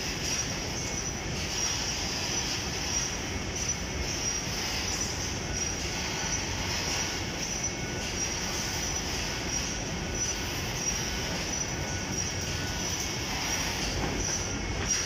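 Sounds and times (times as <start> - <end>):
industrial machinery hiss: 0.0 - 15.0
thin high whine: 0.0 - 15.0.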